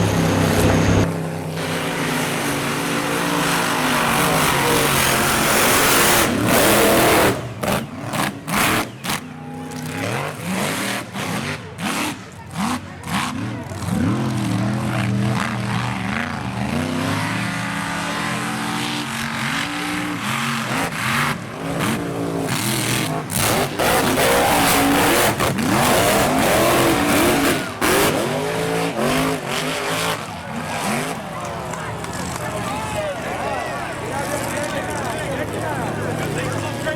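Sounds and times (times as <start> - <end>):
truck engine revving hard: 0.0 - 36.9.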